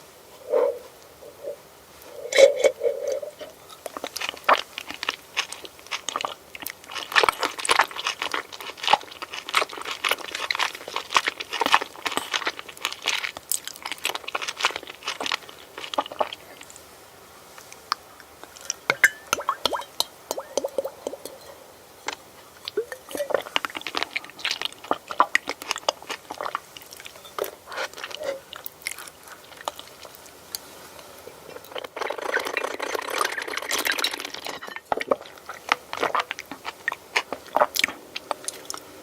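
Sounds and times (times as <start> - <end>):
crunchy chewing of food: 0.4 - 39.0.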